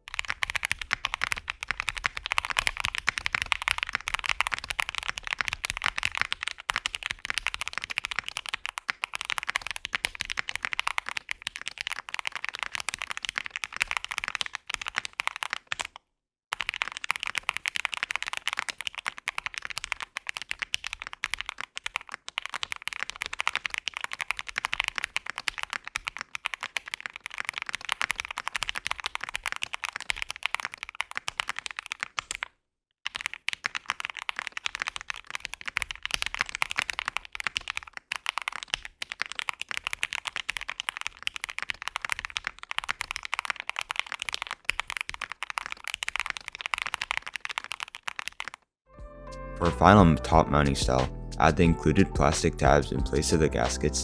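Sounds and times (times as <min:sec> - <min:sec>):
fast typing on mechanical keyboard: 0:00.0 - 0:48.7.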